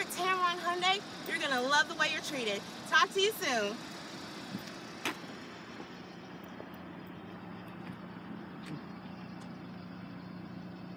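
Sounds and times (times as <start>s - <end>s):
outdoor background noise: 0.0s - 10.9s.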